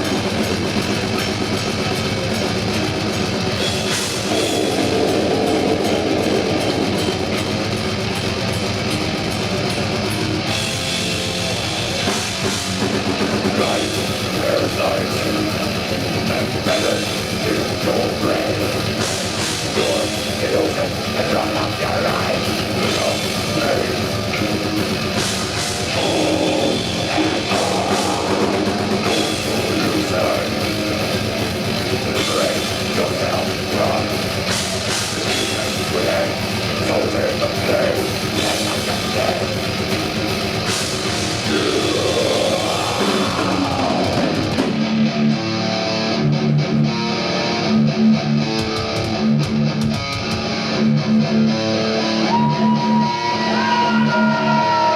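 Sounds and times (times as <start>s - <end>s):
drum kit: 0.0s - 45.8s, 48.5s - 50.8s
distorted electric guitars: 0.0s - 54.9s
heavy metal band playing: 0.0s - 54.9s.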